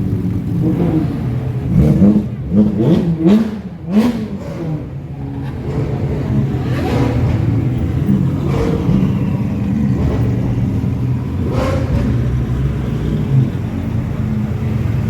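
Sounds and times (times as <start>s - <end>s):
sports car engine idling: 0.0s - 15.0s
engine rev blips: 0.3s - 15.0s.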